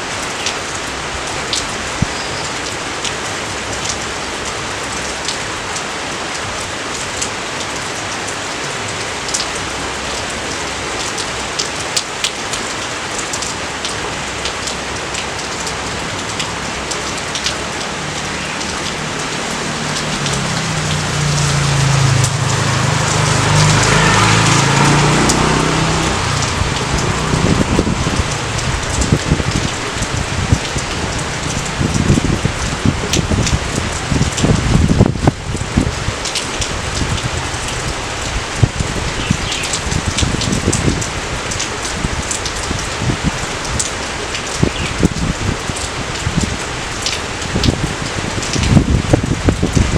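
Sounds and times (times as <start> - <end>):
steady rain: 0.0 - 49.9
raindrops ticking: 0.1 - 49.9.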